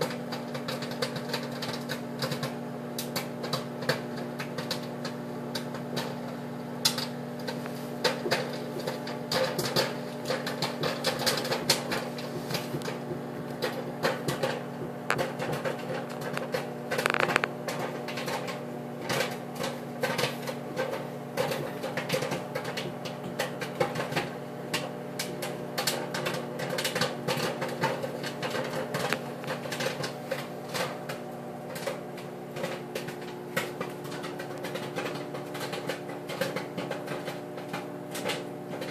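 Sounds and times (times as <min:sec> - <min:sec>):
microwave oven hum: 0:00.0 - 0:38.9
popcorn popping: 0:00.0 - 0:38.9.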